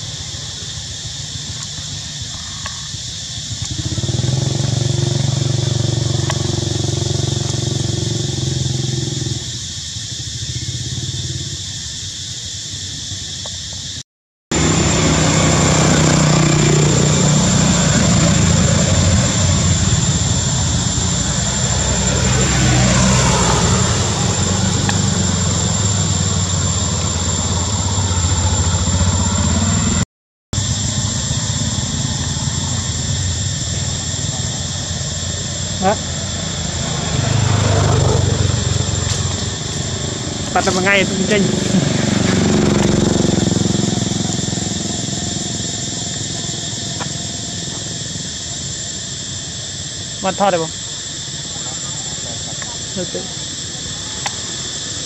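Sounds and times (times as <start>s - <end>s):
vehicle engines droning: 0.0s - 13.9s, 14.5s - 30.0s, 30.6s - 55.0s
vehicle passing close: 2.9s - 11.9s, 14.5s - 30.0s, 30.6s - 55.0s.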